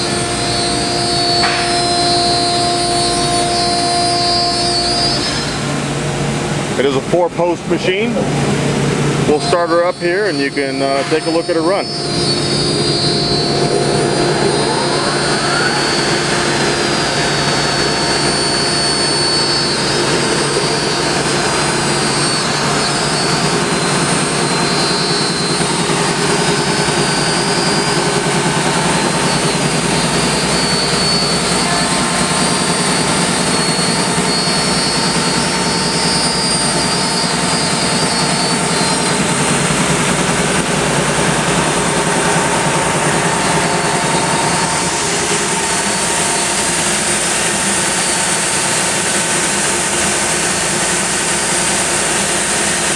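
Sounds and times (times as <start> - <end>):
widebelt sander running: 0.0 - 52.9.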